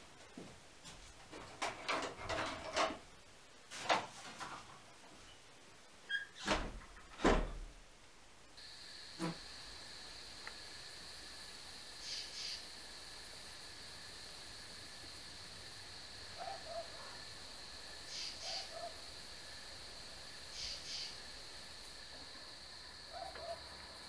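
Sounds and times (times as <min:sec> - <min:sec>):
faint high hiss: 0:02.9 - 0:24.0.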